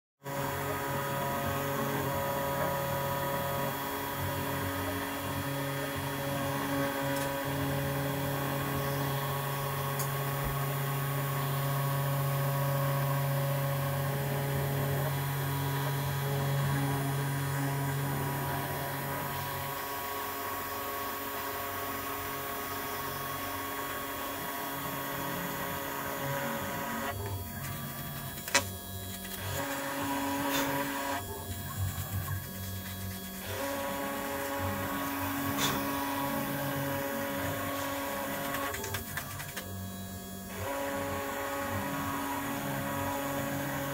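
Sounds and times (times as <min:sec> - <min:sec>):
machine motors humming: 0:00.2 - 0:43.9.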